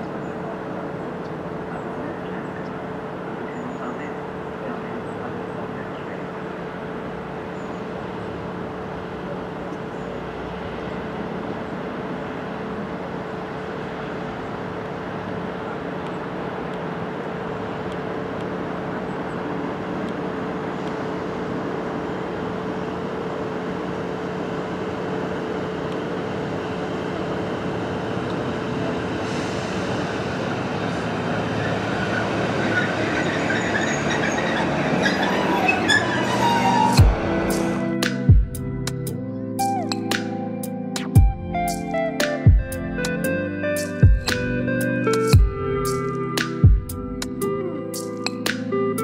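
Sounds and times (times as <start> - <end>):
train diesel engine humming: 0.0 - 49.0.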